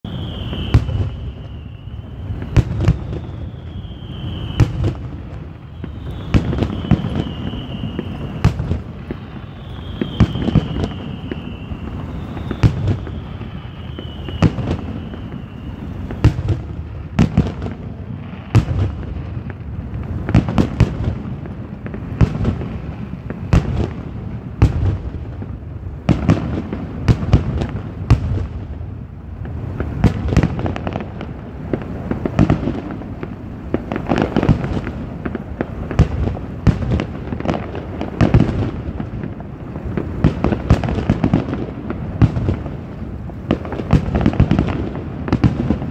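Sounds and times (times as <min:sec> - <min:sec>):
firework bangs and booms: 0:00.0 - 0:45.9.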